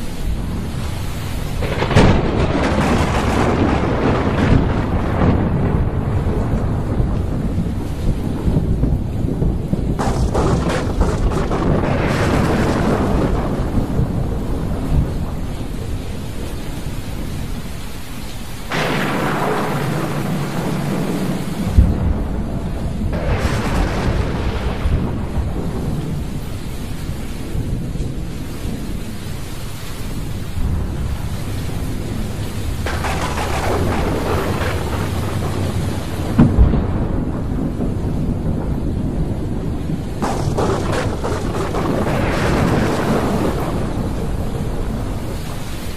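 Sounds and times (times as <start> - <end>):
heavy rain: 0.0 - 45.9
thunder rumbling: 0.0 - 45.9
deep thunder boom: 1.6 - 15.9, 18.7 - 28.8, 30.6 - 45.7.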